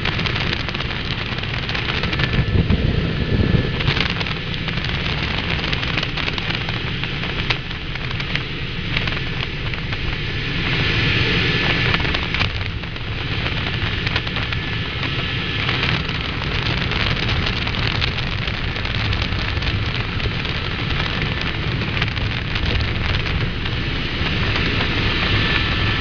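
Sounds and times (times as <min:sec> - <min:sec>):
helicopter rotor and engine rush: 0:00.0 - 0:26.0
low drone: 0:00.0 - 0:26.0.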